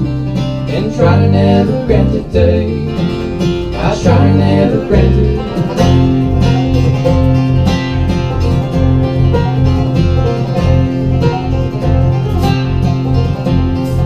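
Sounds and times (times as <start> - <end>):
plucked strings: 0.0 - 14.0
pulsing bass beat: 1.1 - 14.0.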